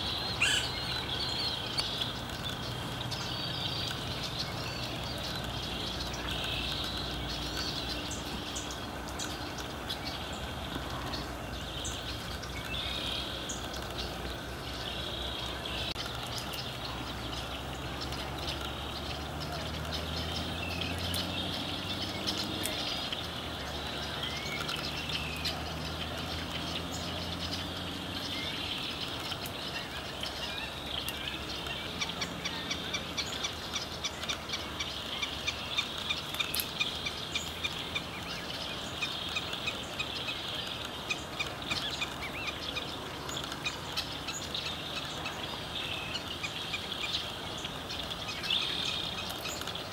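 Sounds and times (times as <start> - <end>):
fast ticking bird notes: 0.0 - 49.9
songbirds chirping and whistling: 0.0 - 49.9.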